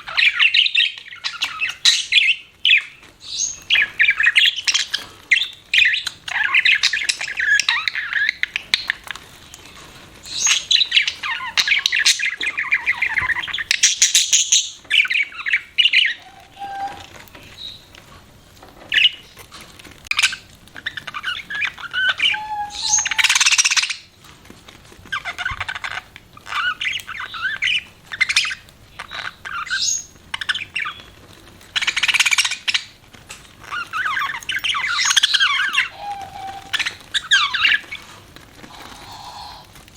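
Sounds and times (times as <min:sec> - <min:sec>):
budgerigars chirping and chattering: 0:00.0 - 0:17.9, 0:18.8 - 0:19.5, 0:20.1 - 0:24.1, 0:25.0 - 0:39.8.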